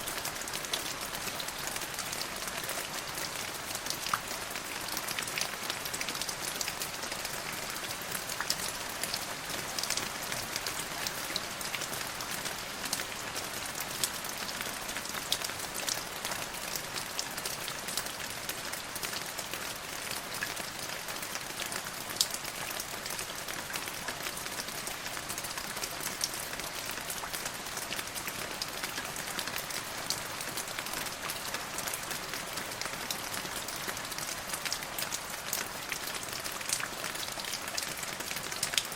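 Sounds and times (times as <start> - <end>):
rain on hard surface: 0.0 - 38.9.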